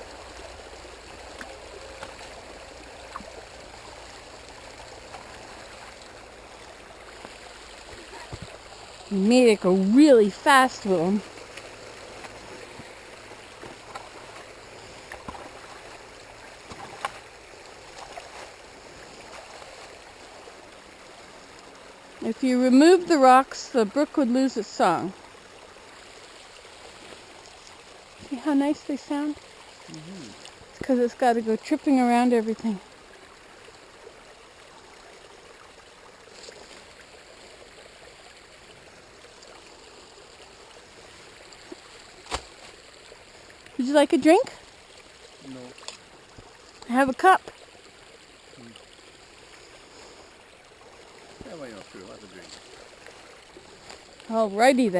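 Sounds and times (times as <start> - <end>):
brook babbling over rocks: 0.0 - 54.9
small water splashes: 0.0 - 54.9.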